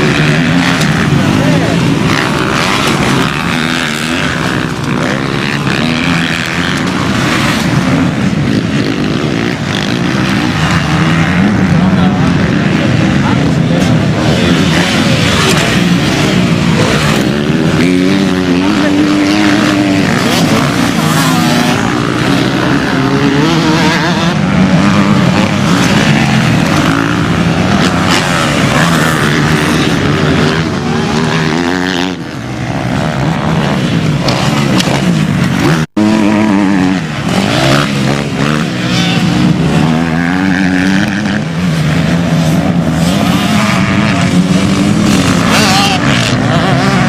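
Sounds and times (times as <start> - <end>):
motocross engines revving: 0.0 - 47.0.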